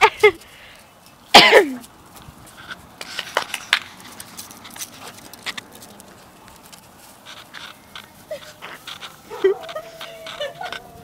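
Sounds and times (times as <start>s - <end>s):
puppy claws clicking on concrete: 1.8s - 11.0s.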